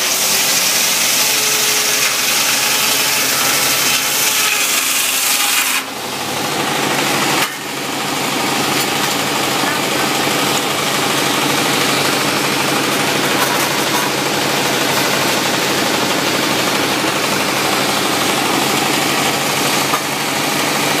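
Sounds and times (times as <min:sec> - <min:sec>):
sawmill engine running: 0:00.0 - 0:21.0.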